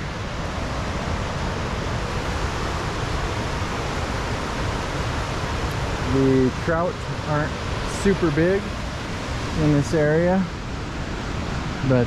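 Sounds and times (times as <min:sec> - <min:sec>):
creek rushing over waterfalls: 0:00.0 - 0:12.0.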